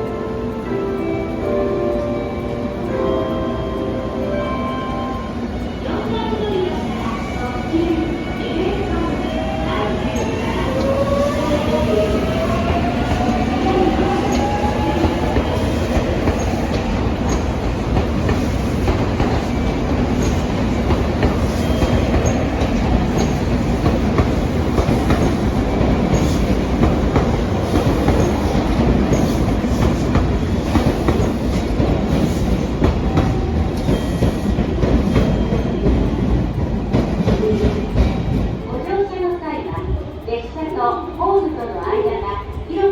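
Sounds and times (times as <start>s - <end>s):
train wheels clattering over rails: 0.0s - 40.6s.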